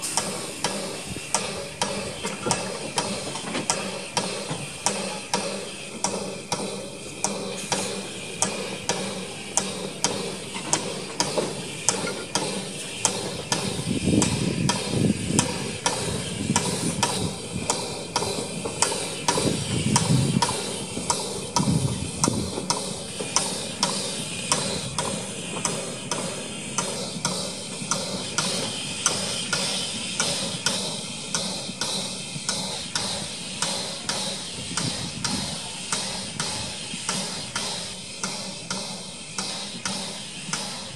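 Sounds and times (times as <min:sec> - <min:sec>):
steam locomotive exhaust beats: 0:00.0 - 0:40.9.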